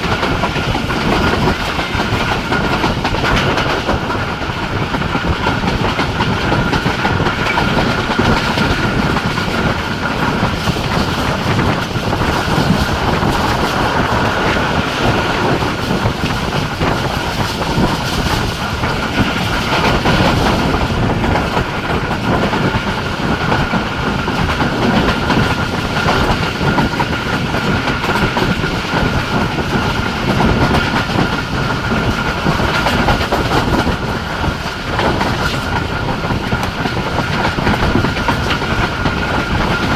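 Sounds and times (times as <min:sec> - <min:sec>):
track clickety-clack: 0:00.0 - 0:39.9
train wheels rumbling on rail: 0:00.0 - 0:39.9.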